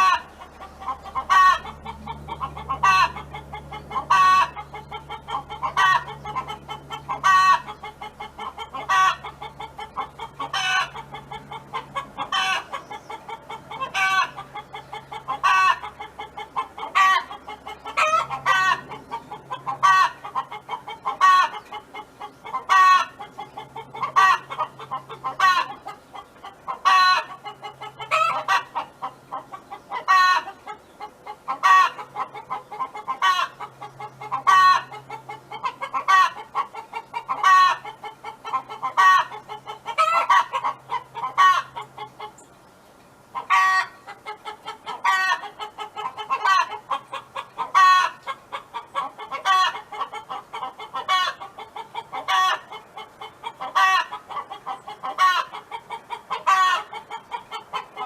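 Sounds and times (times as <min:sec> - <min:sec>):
hen clucking: 0:00.0 - 0:42.6, 0:43.3 - 0:58.0.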